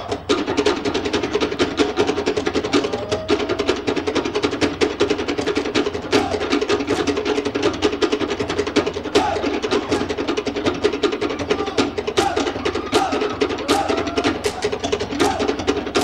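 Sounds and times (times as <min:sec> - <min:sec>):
drum ensemble playing fast rhythm: 0:00.0 - 0:16.0.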